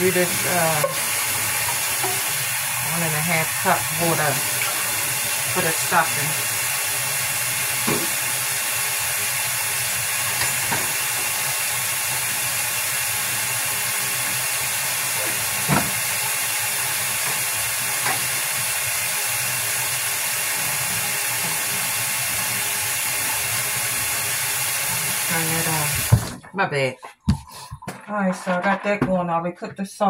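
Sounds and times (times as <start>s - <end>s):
steam hissing from pots: 0.0s - 26.3s.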